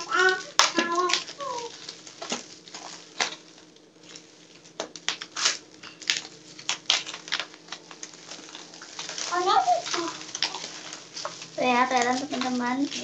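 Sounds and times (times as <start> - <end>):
scissors snipping plastic: 0.0 - 3.4, 4.1 - 13.0
plastic crinkling: 0.0 - 13.0.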